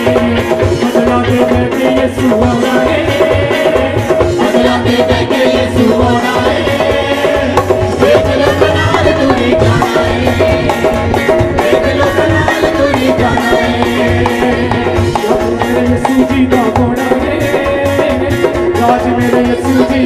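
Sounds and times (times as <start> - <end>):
hand percussion: 0.0 - 20.0
steady drum beat: 0.0 - 20.0
upbeat instrumental worship music: 0.0 - 20.0.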